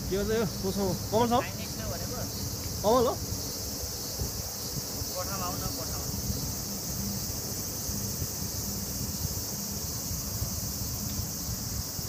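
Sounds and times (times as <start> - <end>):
high-pitched insect chorus: 0.0 - 12.0
wind rumble: 0.0 - 12.0.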